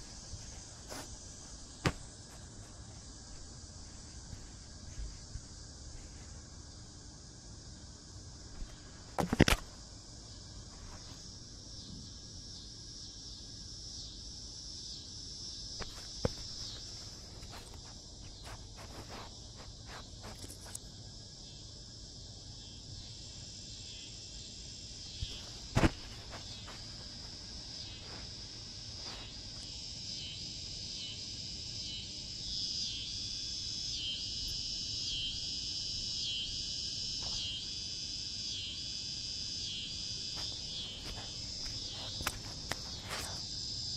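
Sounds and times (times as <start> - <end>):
insect chorus buzzing: 0.0 - 43.9.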